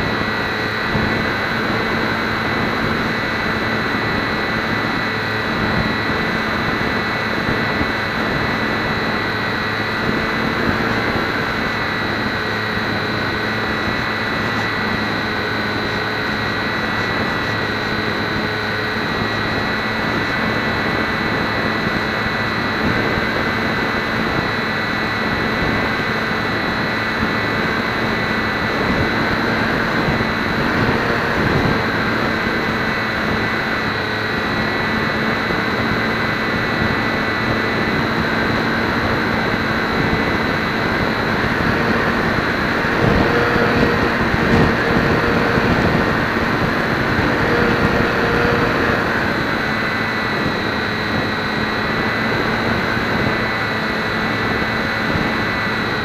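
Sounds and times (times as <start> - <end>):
small electric motor whine: 0.0 - 56.0.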